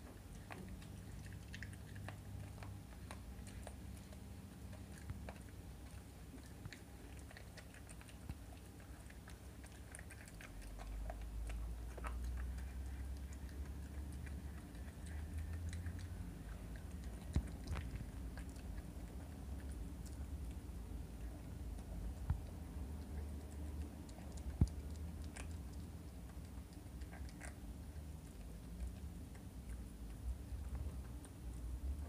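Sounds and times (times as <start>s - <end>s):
dog gnawing bone: 0.0s - 32.0s.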